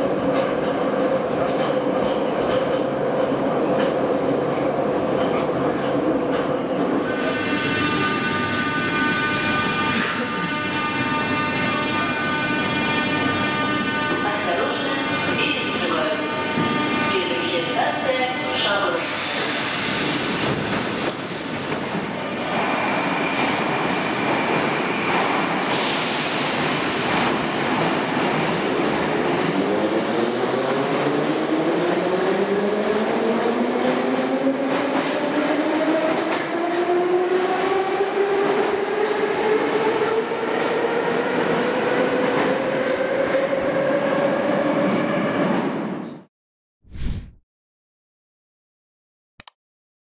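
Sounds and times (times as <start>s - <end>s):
train rumble and wheel noise: 0.0s - 46.3s.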